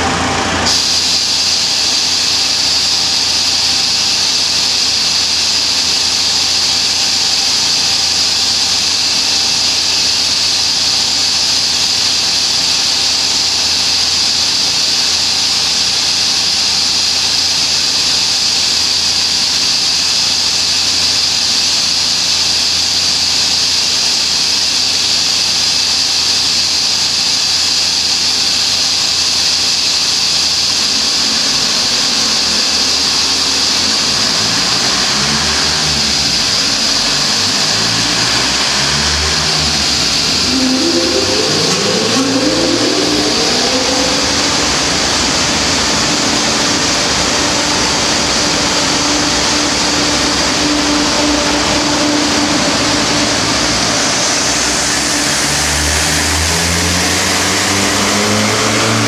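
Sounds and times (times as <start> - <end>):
loud steady rushing noise: 0.0 - 21.2, 28.4 - 59.0
diesel engine running on dyno: 0.0 - 59.0.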